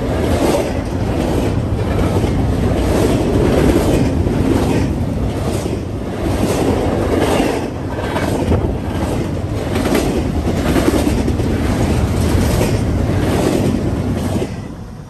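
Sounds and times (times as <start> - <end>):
wheels clicking over rail joints: 0.0 - 14.7
freight train rumbling past: 0.0 - 15.0.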